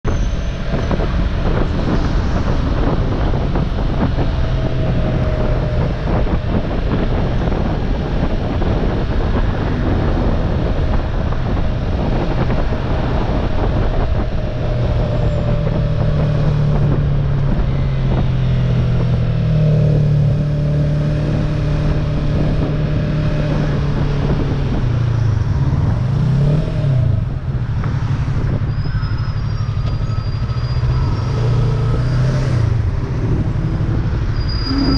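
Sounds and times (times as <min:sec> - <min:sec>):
wind rush on microphone: 0:00.1 - 0:34.9.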